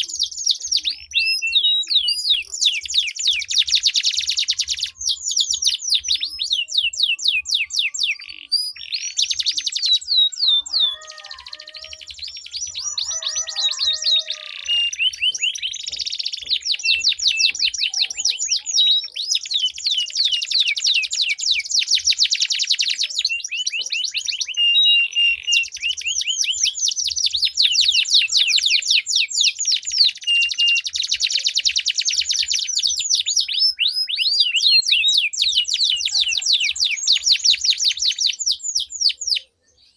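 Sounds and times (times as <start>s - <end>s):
canaries singing rolling trills: 0.0s - 39.9s.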